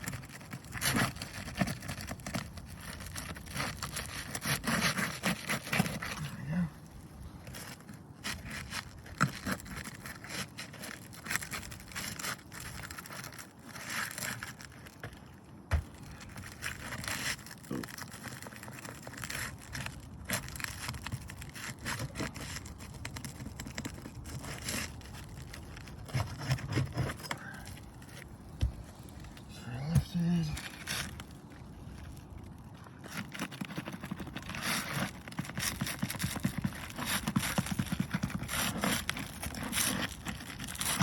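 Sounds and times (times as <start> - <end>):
roof shingles scraping and crackling: 0.0 - 41.0.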